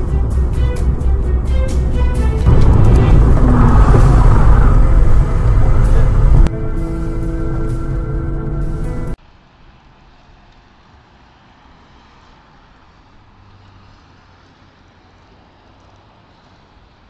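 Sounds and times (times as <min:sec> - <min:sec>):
car interior road noise: 0:00.0 - 0:17.0.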